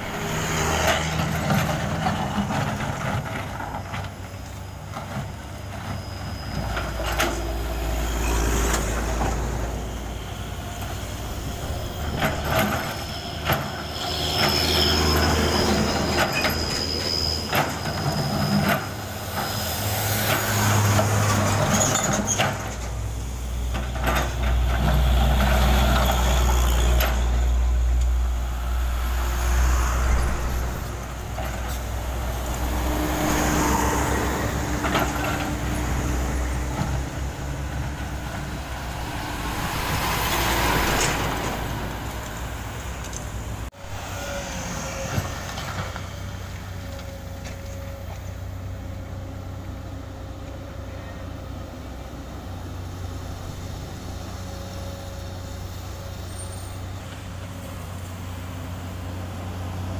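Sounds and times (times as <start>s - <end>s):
excavator engine running: 0.0s - 16.9s, 17.5s - 56.3s
heavy trucks passing: 0.0s - 59.9s.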